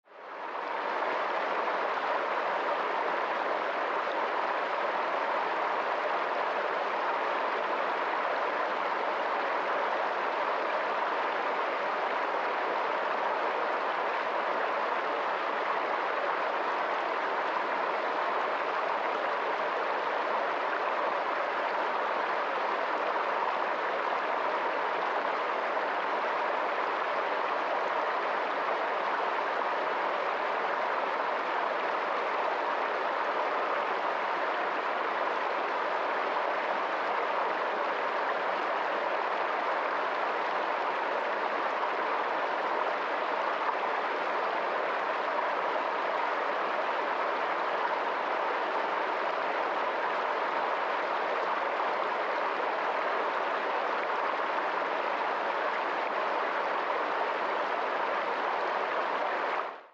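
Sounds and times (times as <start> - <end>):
stream rushing over boulders: 0.1 - 59.9.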